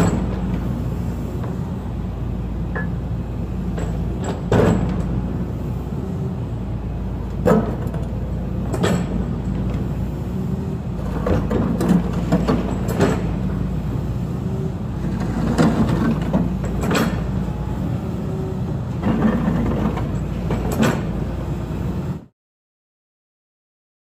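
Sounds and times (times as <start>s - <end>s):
excavator diesel engine running: 0.0s - 22.3s.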